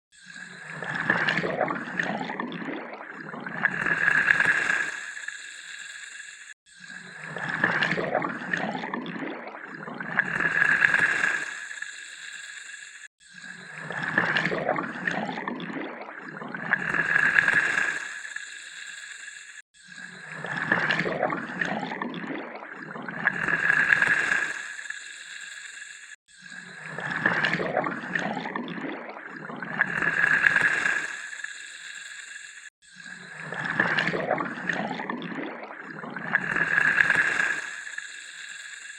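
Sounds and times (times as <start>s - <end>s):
water pouring: 0.2s - 38.9s.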